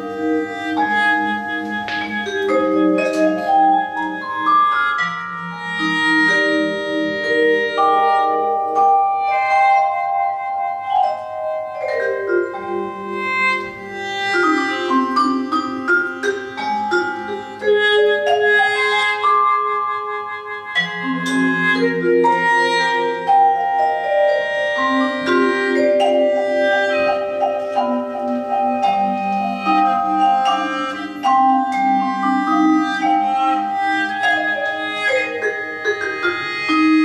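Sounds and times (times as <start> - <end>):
mallet percussion arpeggios: 0.0 - 37.0.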